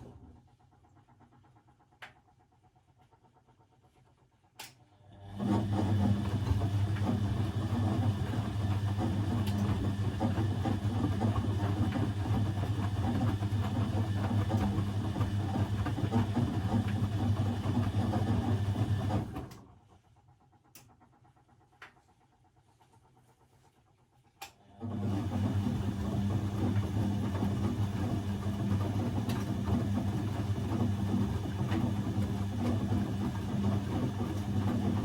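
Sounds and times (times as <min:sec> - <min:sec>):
washing machine motor hum: 0:00.0 - 0:23.6, 0:24.6 - 0:35.0.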